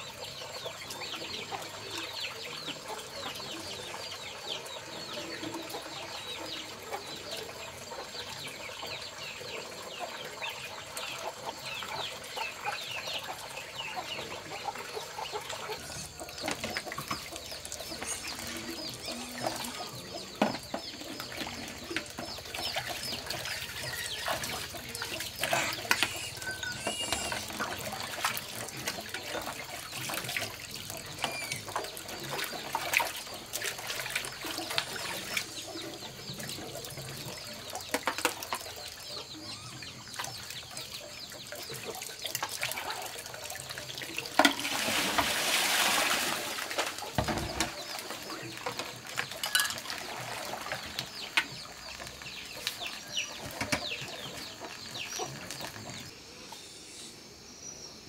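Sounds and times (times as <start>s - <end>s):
chickens clucking: 0.0s - 56.7s.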